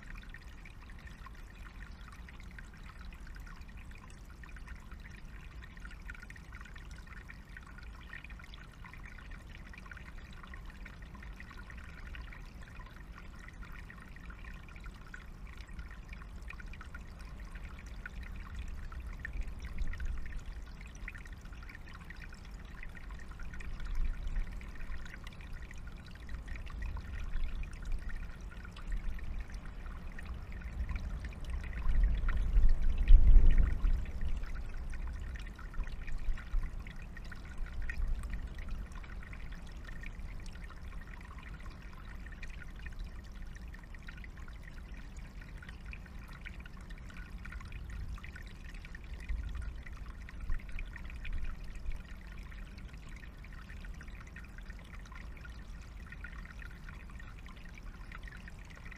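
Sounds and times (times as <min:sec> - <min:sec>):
stream trickling over stones: 0:00.0 - 0:58.9.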